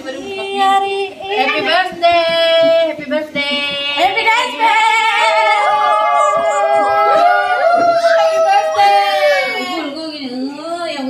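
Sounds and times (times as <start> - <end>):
group singing a birthday song: 0.0 - 10.2.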